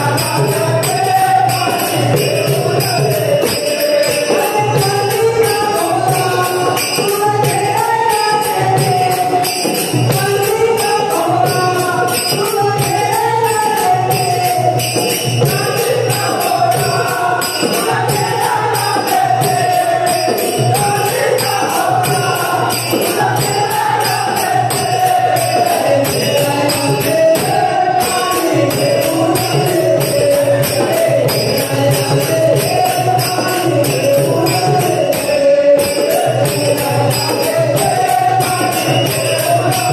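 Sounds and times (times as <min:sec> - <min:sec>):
devotional song with wavering melody: 0:00.0 - 0:39.9
jingling small metal percussion: 0:00.0 - 0:39.9.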